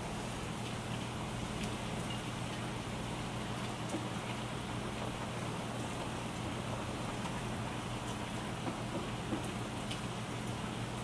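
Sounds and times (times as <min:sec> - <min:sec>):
steady rain falling: 0:00.1 - 0:11.0.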